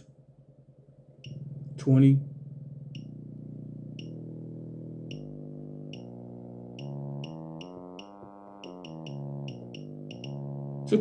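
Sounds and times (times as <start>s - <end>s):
buzzy low test tone: 0.1s - 11.0s.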